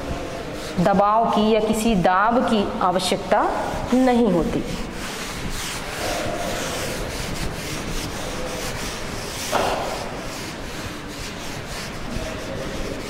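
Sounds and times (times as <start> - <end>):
duster rubbing on blackboard: 0.0 - 13.0.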